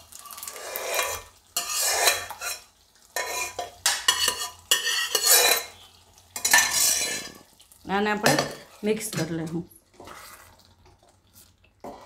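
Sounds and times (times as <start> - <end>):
spatula scraping metal pot: 0.2 - 7.5, 8.3 - 10.7.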